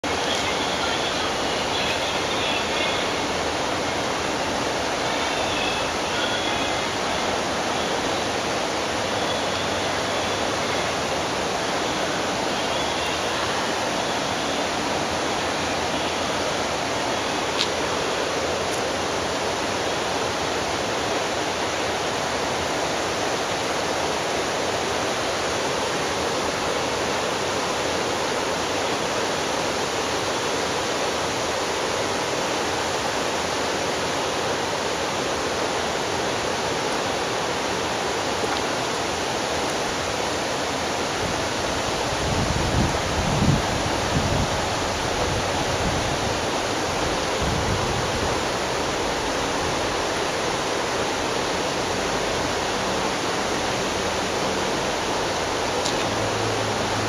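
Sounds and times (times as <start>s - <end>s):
river flowing over rocks: 0.0s - 57.0s.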